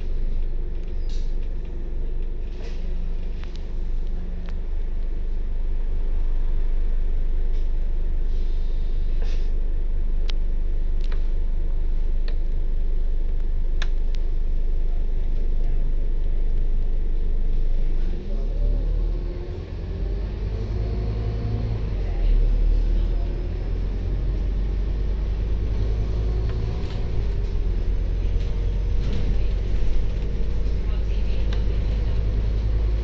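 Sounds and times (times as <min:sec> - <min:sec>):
bus engine idling: 0:00.0 - 0:12.2, 0:13.7 - 0:33.0.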